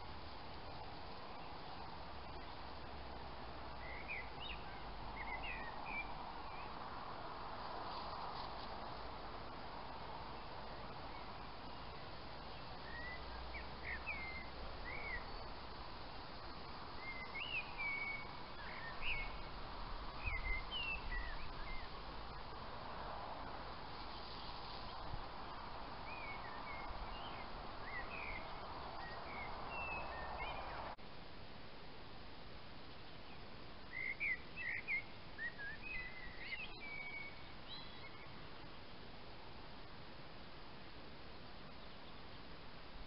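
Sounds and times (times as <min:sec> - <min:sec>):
small birds chirping: 0:00.0 - 0:22.8, 0:23.7 - 0:31.0, 0:32.8 - 0:39.2
outdoor background hiss: 0:00.0 - 0:43.0.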